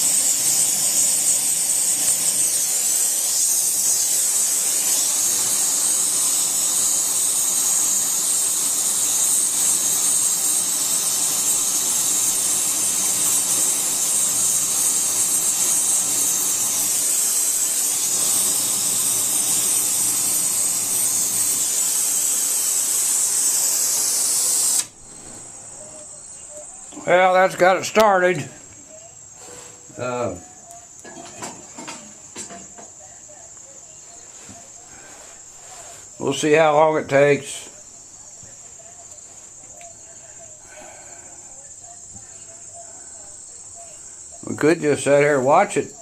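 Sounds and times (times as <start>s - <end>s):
loud hissing flame: 0.0s - 46.0s.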